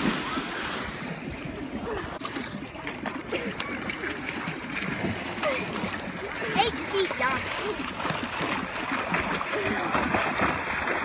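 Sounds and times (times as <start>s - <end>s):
pool water lapping and splashing: 0.0s - 11.0s.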